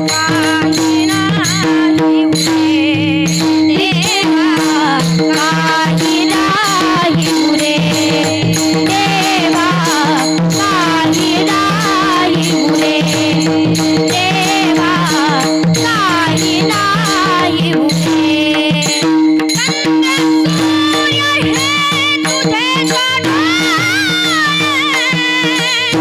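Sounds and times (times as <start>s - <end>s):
barrel drum beat: 0.0s - 26.0s
hand cymbals: 0.0s - 26.0s
woman singing devotional melody: 0.0s - 26.0s.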